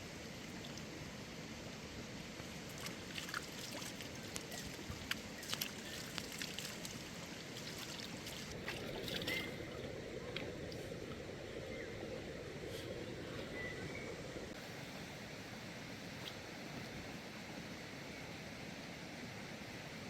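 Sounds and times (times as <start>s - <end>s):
flowing water: 0.0s - 20.0s.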